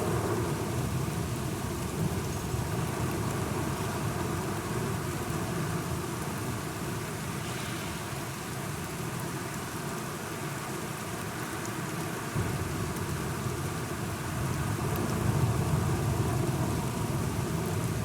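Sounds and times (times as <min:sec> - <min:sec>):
heavy rainfall: 0:00.0 - 0:18.0.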